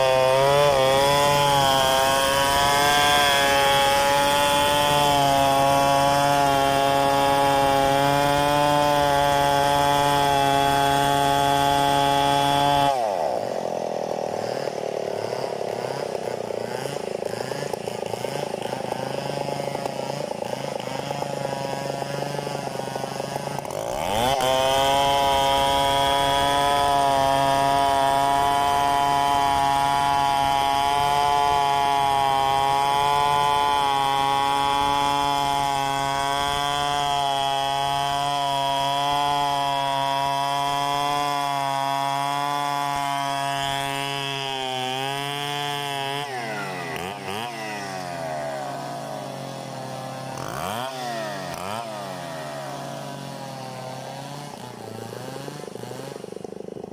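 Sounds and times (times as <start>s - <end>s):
chainsaw cutting log: 0.0s - 56.9s.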